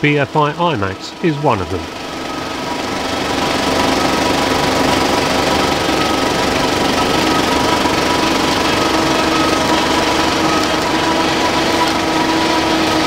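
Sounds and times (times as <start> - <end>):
film projector clattering: 0.0 - 13.0.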